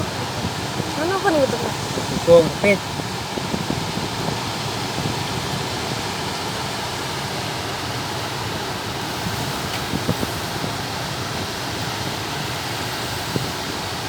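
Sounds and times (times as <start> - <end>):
boat under way: 0.0 - 14.0
water rushing: 0.0 - 14.0
wind buffeting microphone: 0.0 - 14.0.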